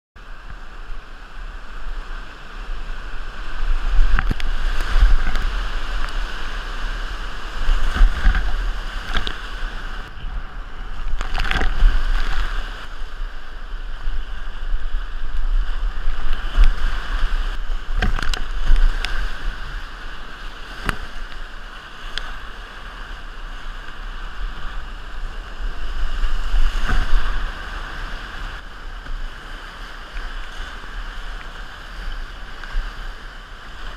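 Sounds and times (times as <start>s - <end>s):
whitewater rapids rushing: 0.2s - 33.9s.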